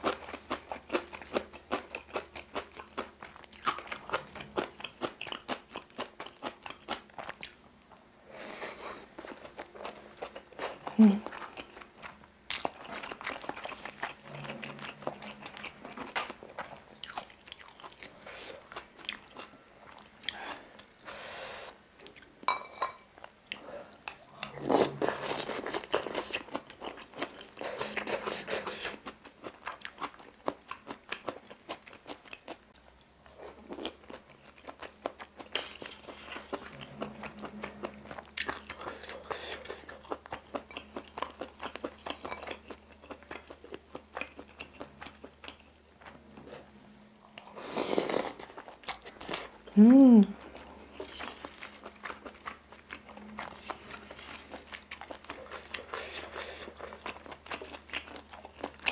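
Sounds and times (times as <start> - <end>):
person chewing with wet mouth sounds: 0.0 - 22.5, 23.2 - 58.9.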